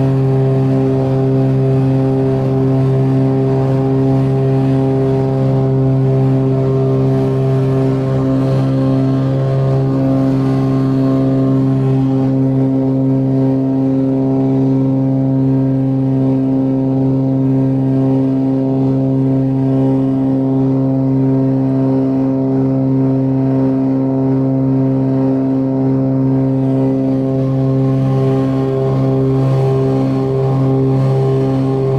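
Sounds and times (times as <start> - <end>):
propeller aircraft engines droning: 0.0 - 31.9.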